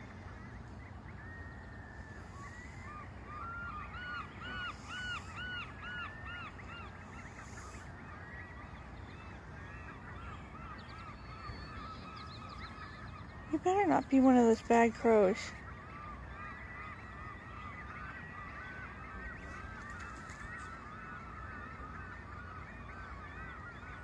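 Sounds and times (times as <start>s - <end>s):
distant geese honking: 1.9s - 24.0s.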